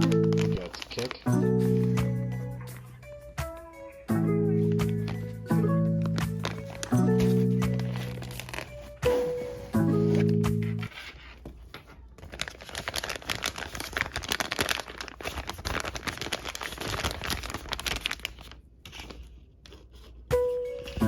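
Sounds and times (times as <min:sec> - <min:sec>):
packaging crinkling and tearing: 0:00.0 - 0:02.0, 0:04.6 - 0:20.2.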